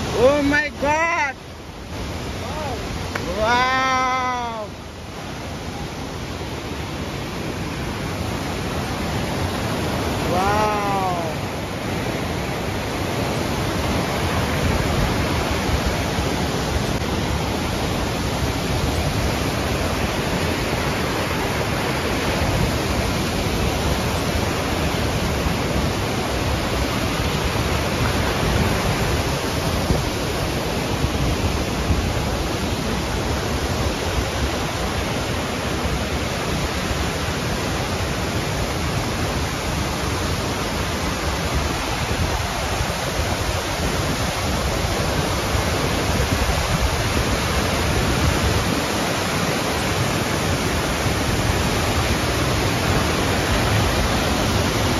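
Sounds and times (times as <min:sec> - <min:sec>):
stream rushing over boulders: 0:00.0 - 0:54.9.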